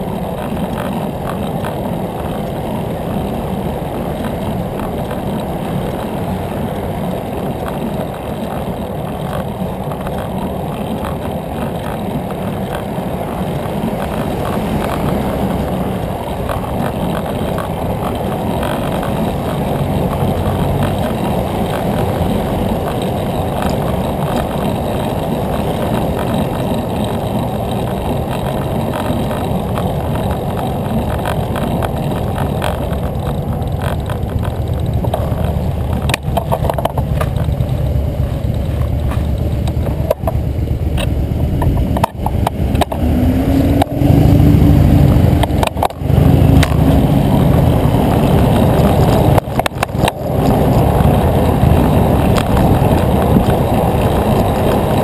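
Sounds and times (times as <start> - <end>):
wind and road rushing: 0.0 - 55.0.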